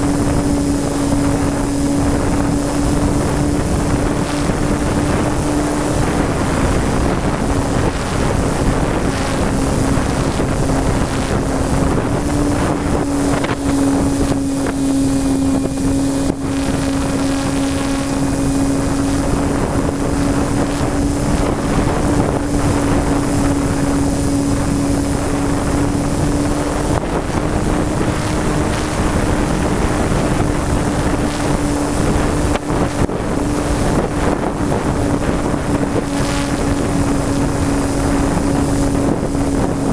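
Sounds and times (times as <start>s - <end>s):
model plane motor droning: 0.0s - 39.9s
wind rushing over microphone: 0.0s - 39.9s.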